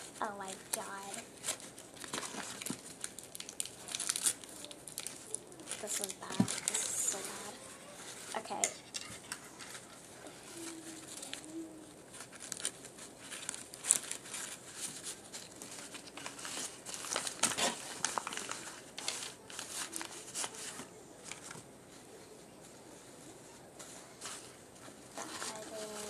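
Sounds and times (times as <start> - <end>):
paper crinkling and rustling: 0.0 - 26.0.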